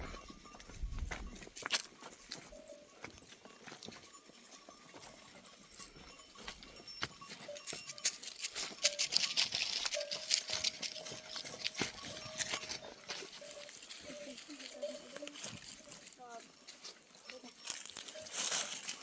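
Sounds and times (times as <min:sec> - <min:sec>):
hooves pattering on ground: 0:00.0 - 0:19.0.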